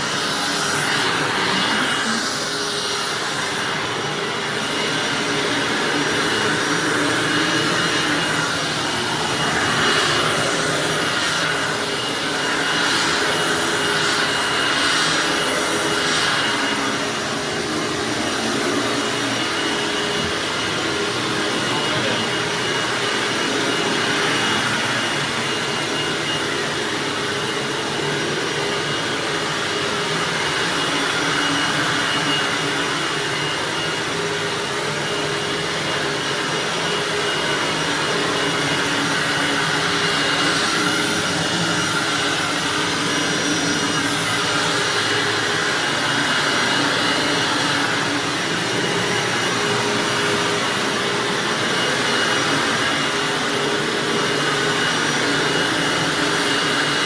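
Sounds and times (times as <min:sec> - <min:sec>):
vacuum cleaner running over carpet: 0:00.0 - 0:57.0.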